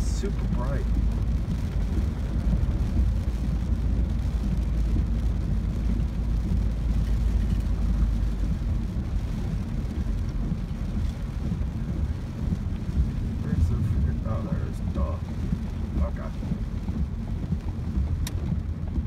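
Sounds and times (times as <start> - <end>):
car driving through rain: 0.0 - 19.0
rain on a car: 0.0 - 19.0.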